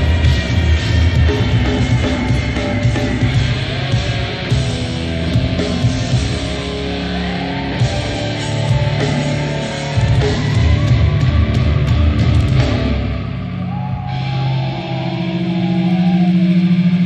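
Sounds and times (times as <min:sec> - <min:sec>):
distorted electric guitar riffing: 0:00.0 - 0:17.0.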